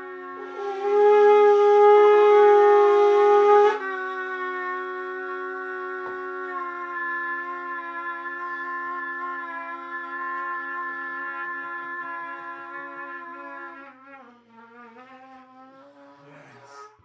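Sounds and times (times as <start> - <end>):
animal horn note: 0.0 - 17.0
conch shell note: 0.0 - 17.0
small trumpet note: 0.0 - 17.0.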